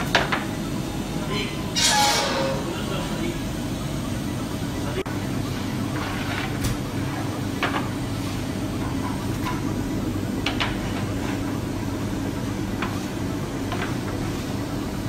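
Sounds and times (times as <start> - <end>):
low mechanical hum of bakery equipment: 0.0 - 15.0.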